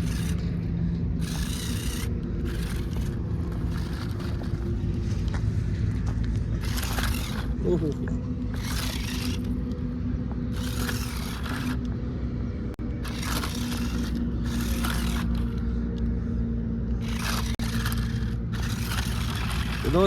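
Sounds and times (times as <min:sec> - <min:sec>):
rasping noise: 0:00.0 - 0:09.6, 0:10.5 - 0:12.0, 0:12.8 - 0:15.8, 0:16.9 - 0:20.0
electric motor whining: 0:00.0 - 0:20.0.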